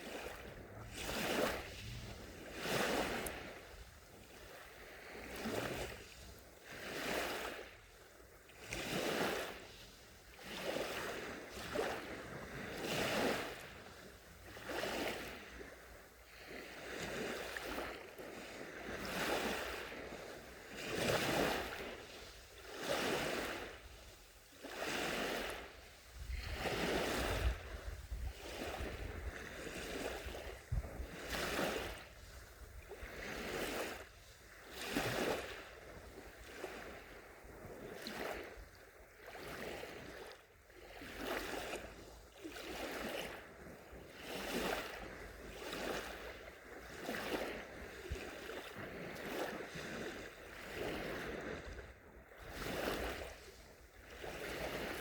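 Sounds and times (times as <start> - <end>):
small waves washing ashore: 0.0 - 55.0.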